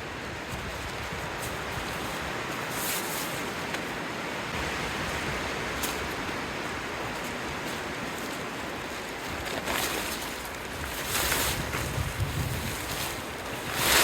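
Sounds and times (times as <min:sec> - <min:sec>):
wind blowing: 0:00.0 - 0:14.0.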